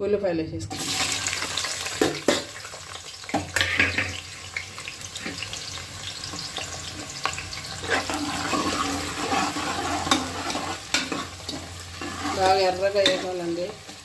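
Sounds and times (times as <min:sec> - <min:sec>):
onions sizzling in hot oil: 0:00.7 - 0:14.0.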